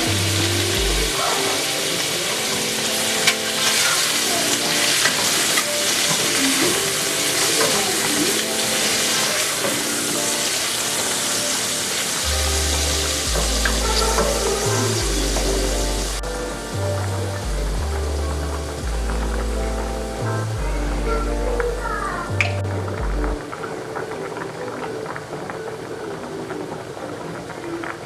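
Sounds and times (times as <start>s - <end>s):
soft background music: 0.0s - 28.0s.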